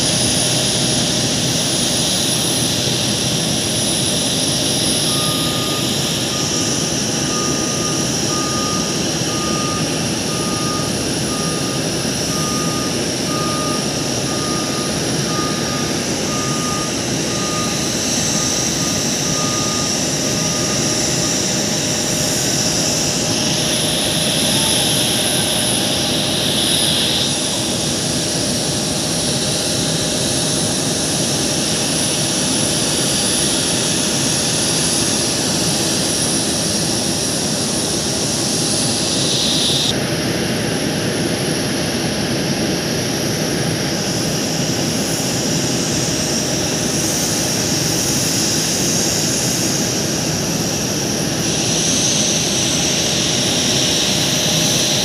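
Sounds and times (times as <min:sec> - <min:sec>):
continuous rushing noise: 0:00.0 - 0:55.0
jet turbine whine: 0:00.0 - 0:55.0.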